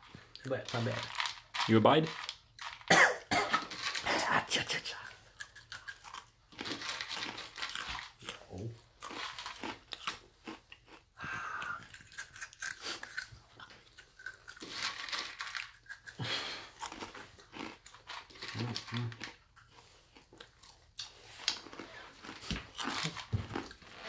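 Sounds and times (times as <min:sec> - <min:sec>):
person crunching dry cereal: 0:00.3 - 0:02.9, 0:04.9 - 0:24.0.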